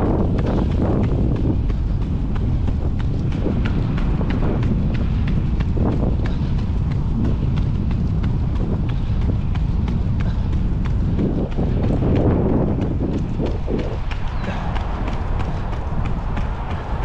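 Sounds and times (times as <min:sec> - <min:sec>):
runners' footsteps on brick paving: 0:00.0 - 0:17.0
wind buffeting microphone: 0:00.0 - 0:17.0.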